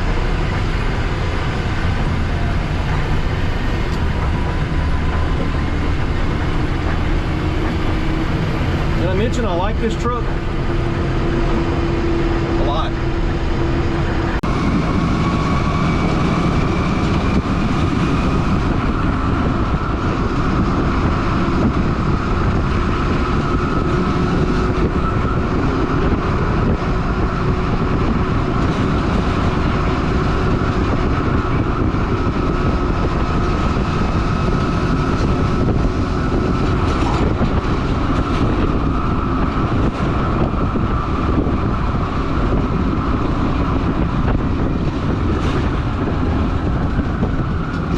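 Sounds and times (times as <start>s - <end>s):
diesel truck and road rumble: 0.0s - 47.9s
steady whine: 0.0s - 47.9s.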